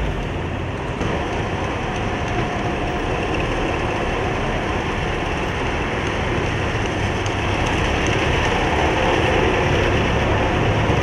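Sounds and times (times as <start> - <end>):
tractor diesel engines running: 0.0 - 11.0.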